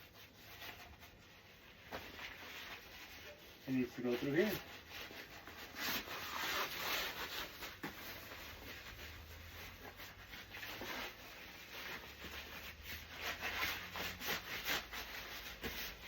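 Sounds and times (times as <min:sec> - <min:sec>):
soft rubbing and rustling: 0:00.0 - 0:16.0.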